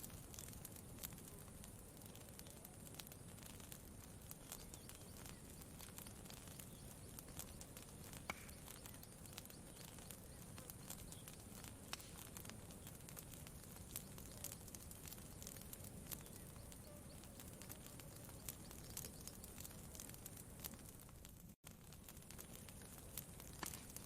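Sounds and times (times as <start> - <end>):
faint campfire crackling: 0.0 - 24.0
low steady hiss: 0.0 - 24.0.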